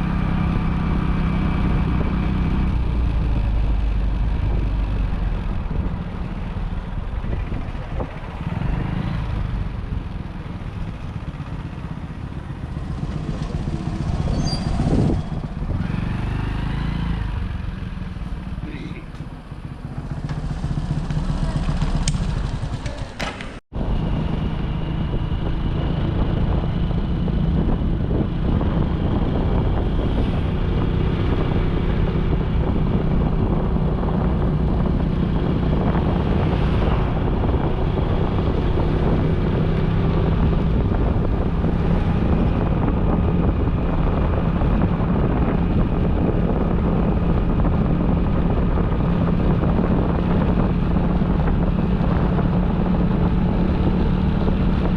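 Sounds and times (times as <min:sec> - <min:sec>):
motorcycle engine running: 0:00.0 - 0:54.9
road and wind noise: 0:00.0 - 0:54.9.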